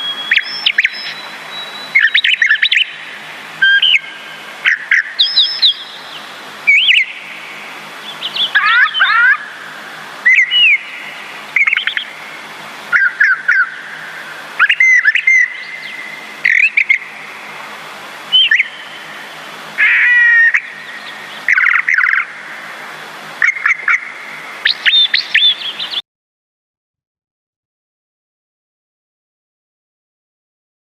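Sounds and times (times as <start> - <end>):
songbirds chirping and trilling: 0.0 - 26.0
steady background hiss: 0.0 - 26.0.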